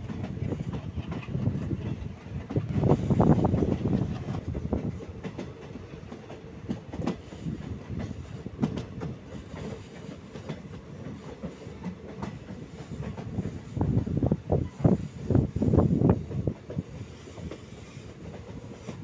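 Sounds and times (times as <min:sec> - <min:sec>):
train bogies rumbling: 0:00.0 - 0:19.0.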